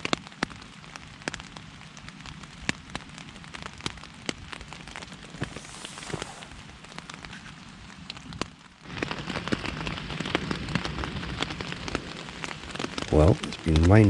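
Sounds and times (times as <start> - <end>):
rain hissing on tent fabric: 0.0 - 14.0
raindrops tapping: 1.2 - 14.0.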